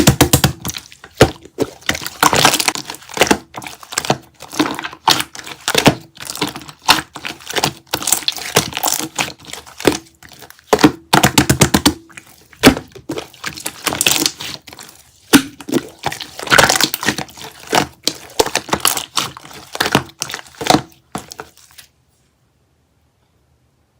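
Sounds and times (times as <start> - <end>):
slime squished by hand: 0.0 - 21.9.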